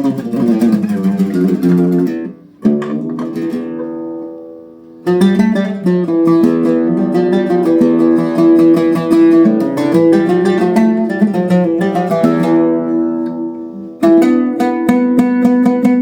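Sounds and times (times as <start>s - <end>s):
oud plucked notes: 0.0s - 16.0s.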